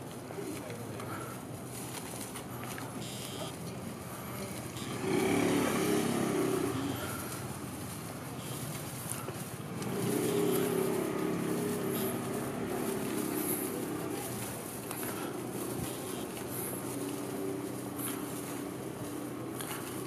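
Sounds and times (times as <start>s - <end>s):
motor scooter passing: 0.0s - 20.0s
small vehicle engine passing: 3.9s - 20.0s.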